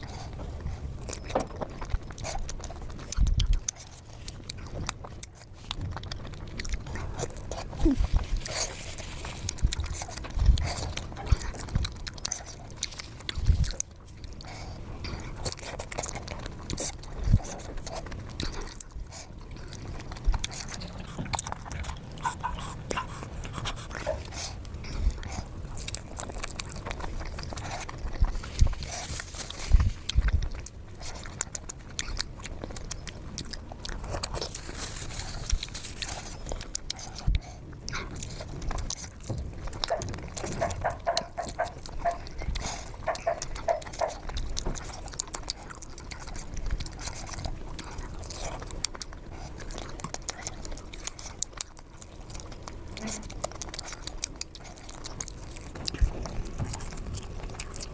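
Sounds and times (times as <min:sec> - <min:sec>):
mouth clicks and smacks: 0:00.0 - 0:57.9
person biting and chewing: 0:00.0 - 0:57.9.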